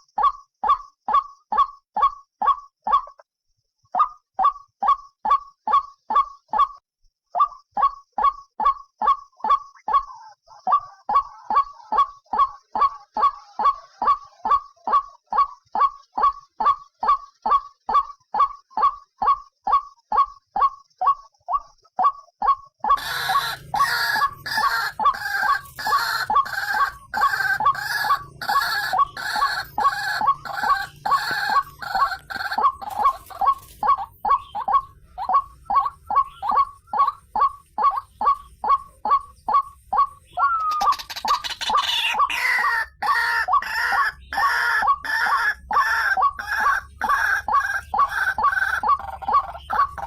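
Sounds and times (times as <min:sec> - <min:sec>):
bird croaking calls: 0:00.0 - 0:03.2, 0:03.9 - 0:06.8, 0:07.4 - 0:50.0
harsher bird calling: 0:07.4 - 0:50.0.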